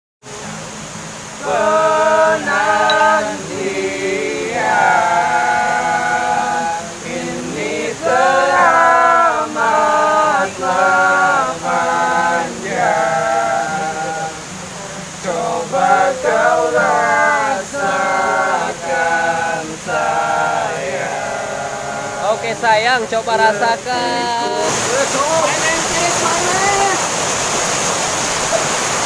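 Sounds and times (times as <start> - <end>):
young men singing together: 1.4 - 26.9.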